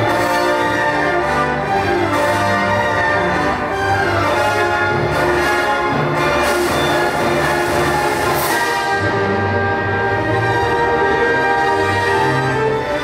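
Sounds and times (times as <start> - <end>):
symphony orchestra playing: 0.0 - 13.0.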